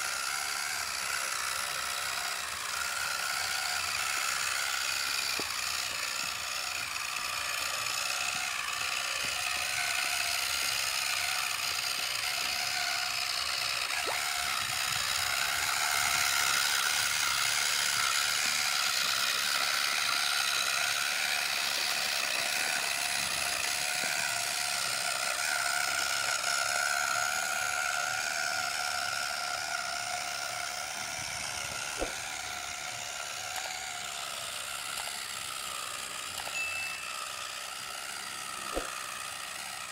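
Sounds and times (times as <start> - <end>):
electric gear motor whining: 0.0 - 39.9.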